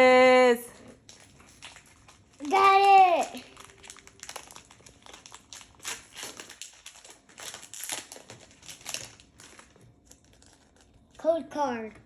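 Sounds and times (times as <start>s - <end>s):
foil wrapper crinkling: 1.0s - 11.2s.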